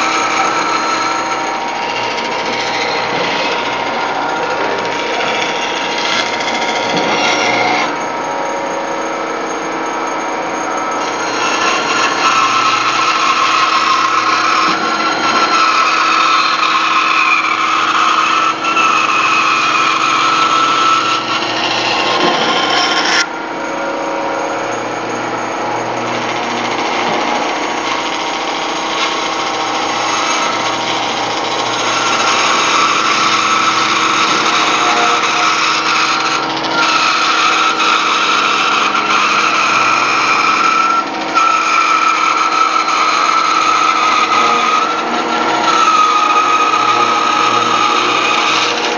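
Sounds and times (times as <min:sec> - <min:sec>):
bandsaw cutting wood: 0:00.0 - 0:48.9.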